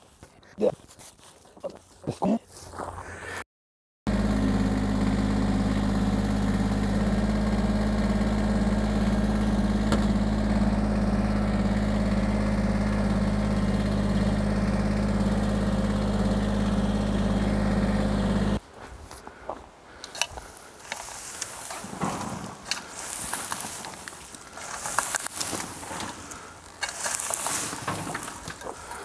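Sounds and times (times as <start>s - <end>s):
engine running steadily: 4.1s - 18.6s, 19.9s - 29.0s.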